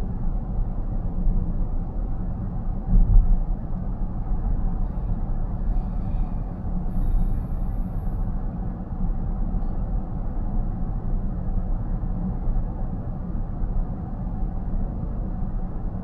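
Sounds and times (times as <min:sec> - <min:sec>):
road and tyre rumble in car: 0:00.0 - 0:16.0.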